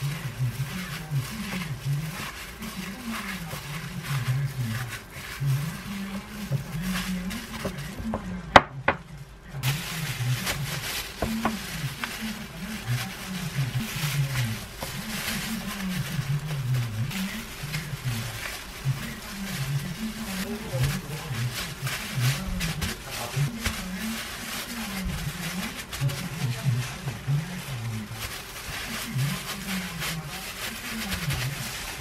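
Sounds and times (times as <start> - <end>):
plastic gloves crinkling: 0.0 - 32.0
squishing food by gloved hands: 0.0 - 32.0
wet leaves spread on wooden board: 0.0 - 32.0.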